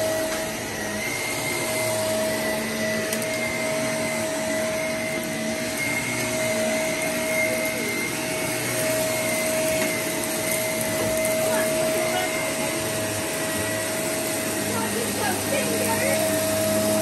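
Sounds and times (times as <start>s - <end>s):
upright vacuum cleaner running: 0.0s - 17.0s.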